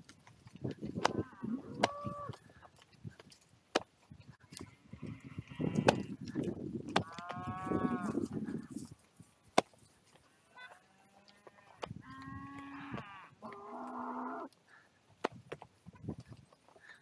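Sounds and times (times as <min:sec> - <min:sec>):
hooves on stony ground: 0:00.0 - 0:17.0.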